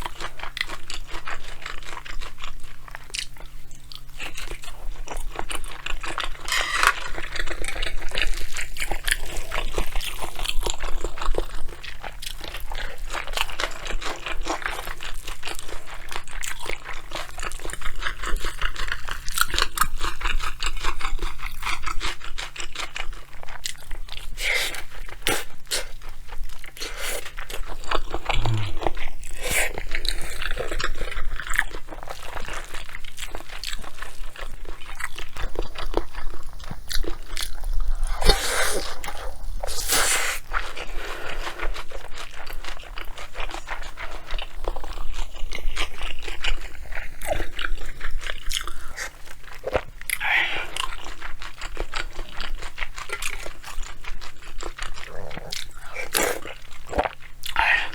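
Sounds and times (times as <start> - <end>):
chewing and crunching food: 0.0 - 57.9
faint low hum: 0.0 - 57.9.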